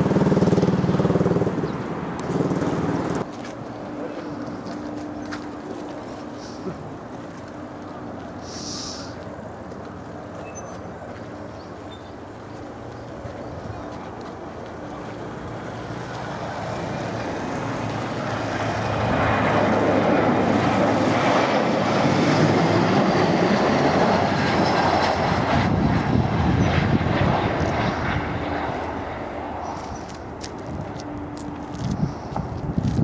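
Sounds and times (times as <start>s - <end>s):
jet airliner passing overhead: 0.0s - 33.0s.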